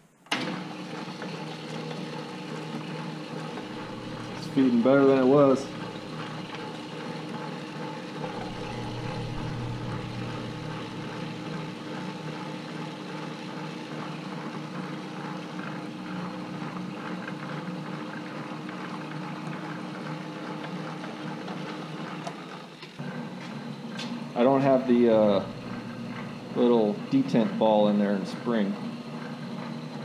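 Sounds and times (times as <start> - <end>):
metal lathe humming and whining: 0.5 - 30.0.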